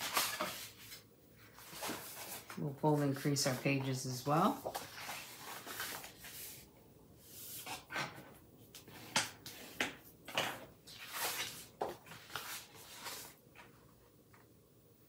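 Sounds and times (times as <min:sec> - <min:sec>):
paper scraping and rustling: 0:00.0 - 0:13.7.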